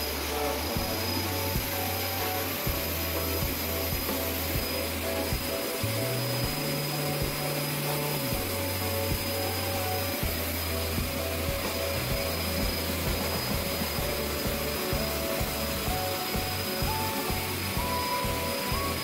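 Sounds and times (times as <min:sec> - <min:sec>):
background music with bass line: 0:00.0 - 0:19.0
hose dryer blowing air: 0:00.0 - 0:19.0.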